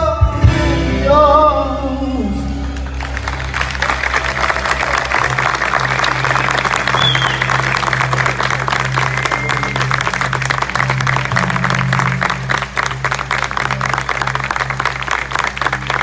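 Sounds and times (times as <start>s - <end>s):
live music with low bass: 0.0s - 16.0s
audience clapping: 2.6s - 16.0s.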